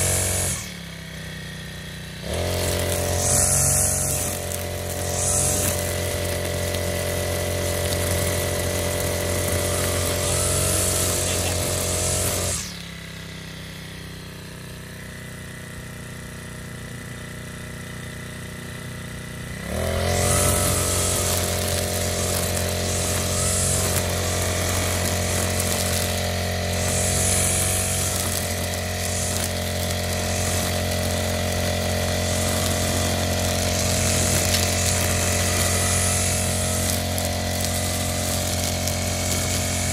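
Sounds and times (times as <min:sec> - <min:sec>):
brush cutter engine: 0:00.0 - 0:39.9.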